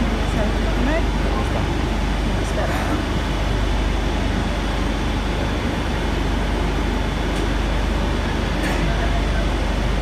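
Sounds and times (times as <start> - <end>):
metro train running: 0.0 - 10.0.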